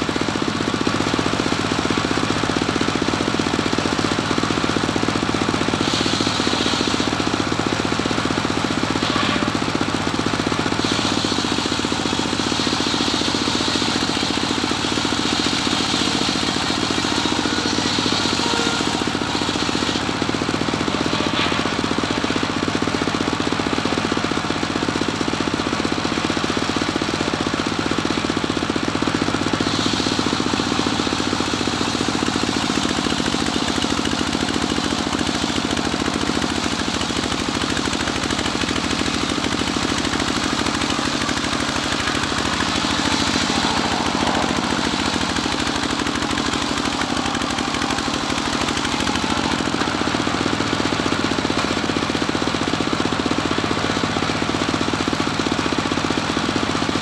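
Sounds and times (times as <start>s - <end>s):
saw blade whine: 0.0s - 57.0s
sawmill engine running: 0.0s - 57.0s.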